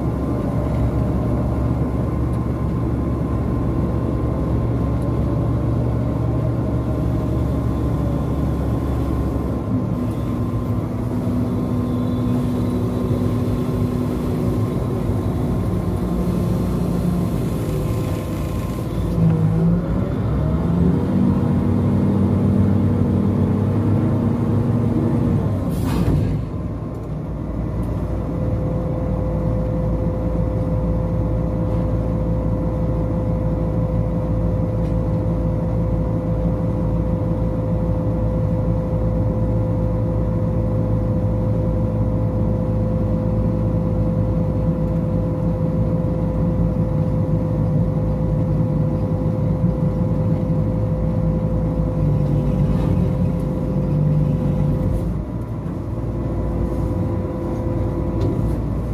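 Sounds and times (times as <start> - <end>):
diesel engine running under load: 0.0 - 58.9.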